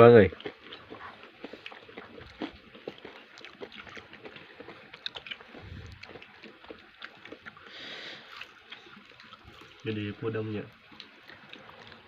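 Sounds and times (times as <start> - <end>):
wet chewing sounds: 0.0 - 12.0.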